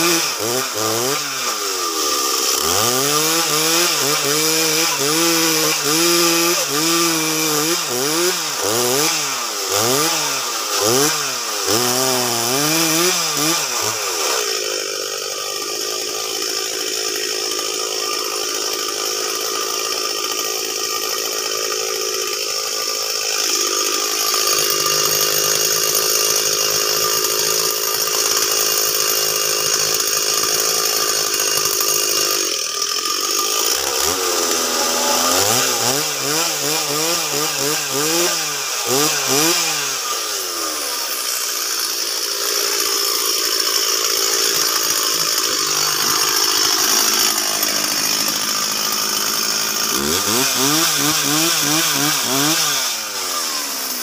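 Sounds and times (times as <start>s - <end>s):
chainsaw cutting timber: 0.0s - 54.0s.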